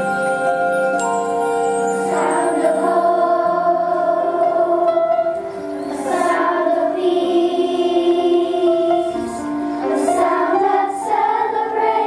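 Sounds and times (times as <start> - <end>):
instrumental accompaniment: 0.0 - 12.0
children's choir singing: 2.0 - 12.0.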